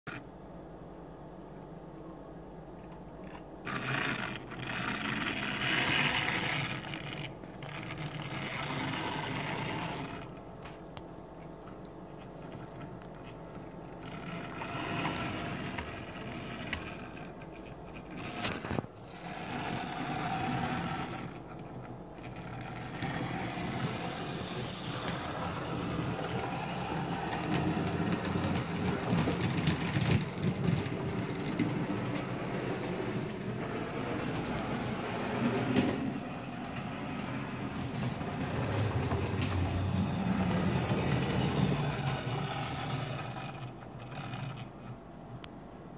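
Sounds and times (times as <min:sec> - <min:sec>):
model trains whirring on track: 0:03.3 - 0:10.4, 0:13.8 - 0:45.2.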